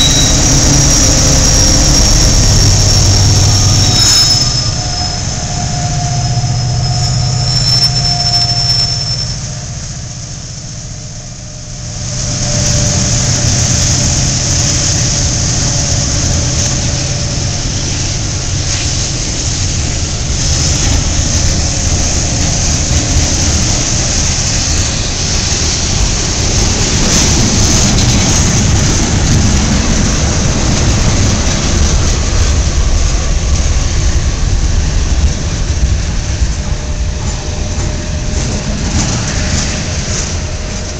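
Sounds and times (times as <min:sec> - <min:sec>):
diesel locomotive engine: 0:00.0 - 0:40.9
freight train rumbling: 0:00.0 - 0:40.9
train wheels squealing on rails: 0:00.0 - 0:40.9.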